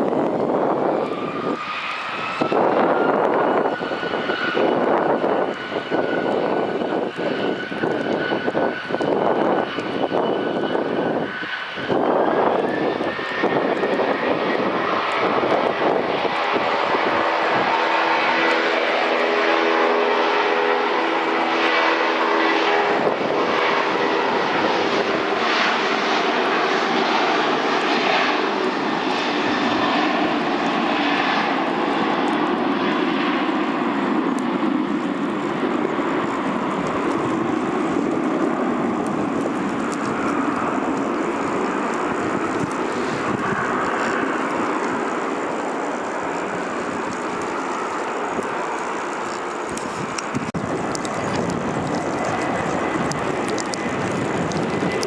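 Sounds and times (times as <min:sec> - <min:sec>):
airliner engines roaring: 0:00.0 - 0:55.0.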